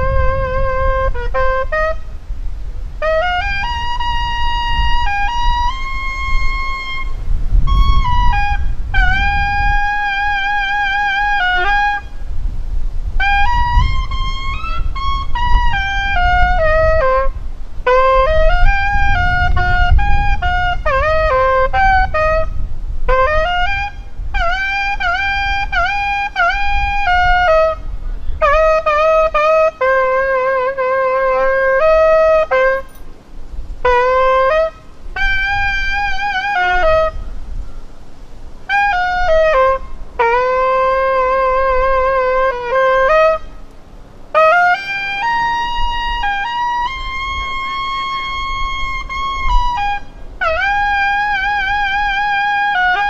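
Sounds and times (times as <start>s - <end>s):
wind instrument slow melody: 0.0s - 53.0s
wind rumbling on microphone: 0.0s - 53.0s.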